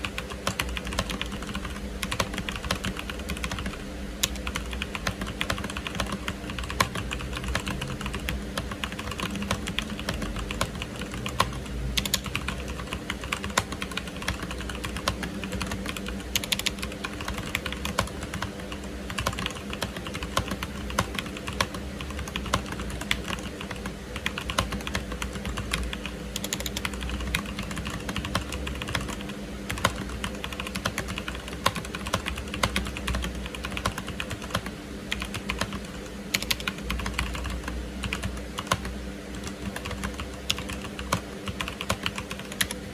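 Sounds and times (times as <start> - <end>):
mechanical keyboard typing: 0.0 - 42.8.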